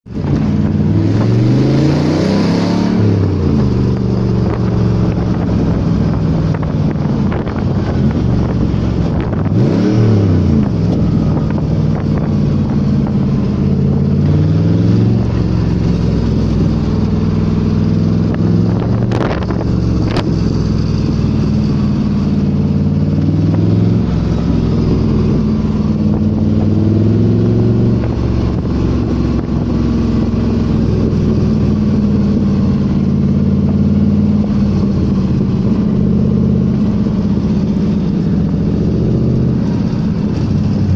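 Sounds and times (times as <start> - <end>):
car engine revving: 0.1 - 40.9.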